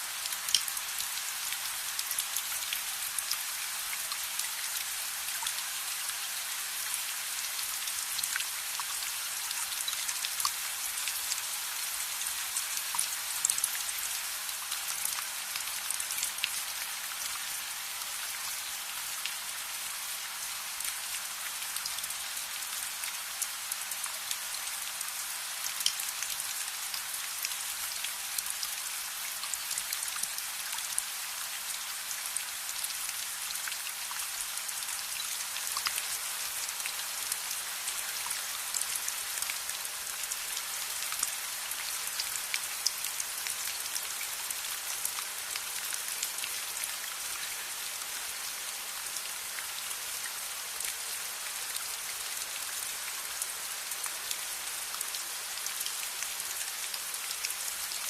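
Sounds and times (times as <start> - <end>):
steady rain hiss: 0.0 - 58.0
raindrops ticking and popping: 0.1 - 48.4.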